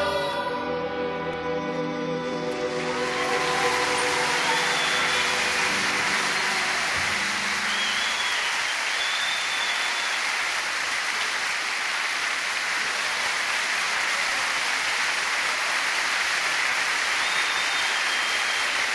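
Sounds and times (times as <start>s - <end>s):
crowd applause: 2.5s - 18.9s.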